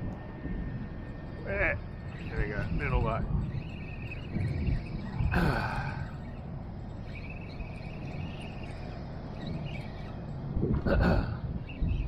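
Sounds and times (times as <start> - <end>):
fishing reel buzzing: 0.8 - 10.6, 11.3 - 12.0.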